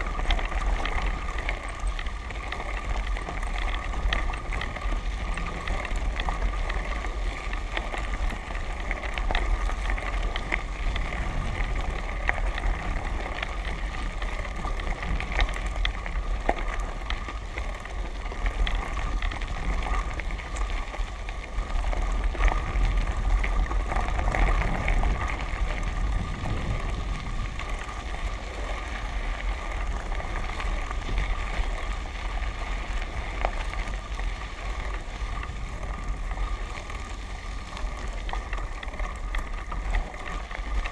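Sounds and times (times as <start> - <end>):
faint steady hum: 0.0 - 40.9
tyres rolling over gravel: 0.0 - 40.9
wind rumble on microphone: 0.0 - 40.9.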